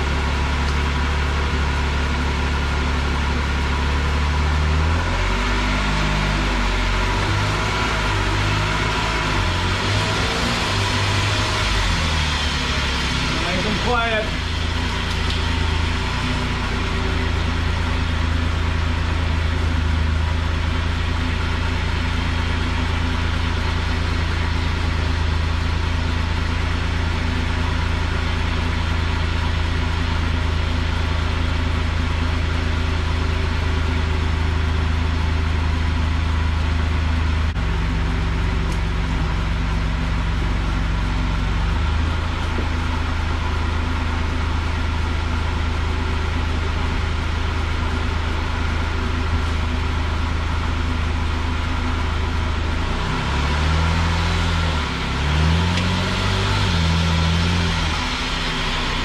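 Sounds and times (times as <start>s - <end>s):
car engine low hum: 0.0s - 59.0s.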